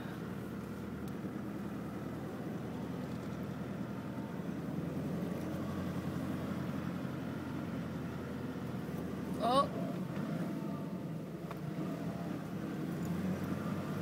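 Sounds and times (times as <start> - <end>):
car engine running under load: 0.0 - 14.0.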